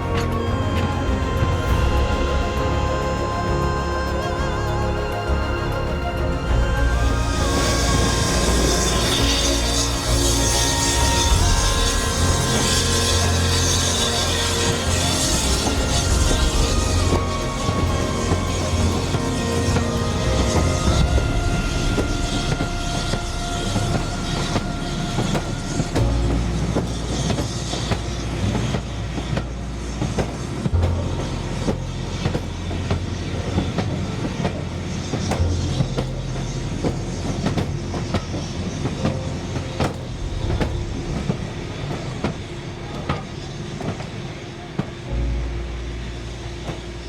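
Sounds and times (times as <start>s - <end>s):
train rumbling along track: 0.0s - 47.0s
wheels clicking over rail joints: 7.5s - 47.0s.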